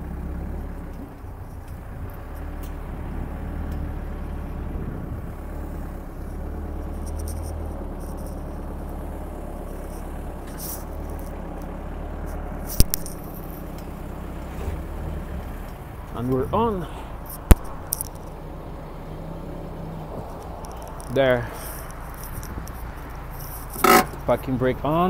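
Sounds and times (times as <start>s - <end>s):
diesel engine running at low revs: 0.0s - 25.0s.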